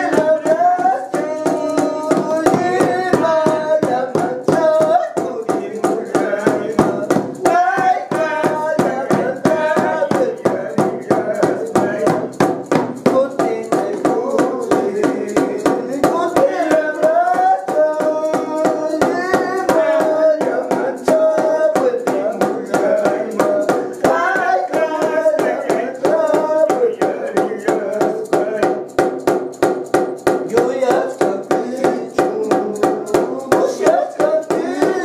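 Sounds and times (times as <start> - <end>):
high-pitched singing: 0.0 - 12.4, 13.1 - 28.6, 30.5 - 35.0
drum fast steady beat: 0.0 - 35.0.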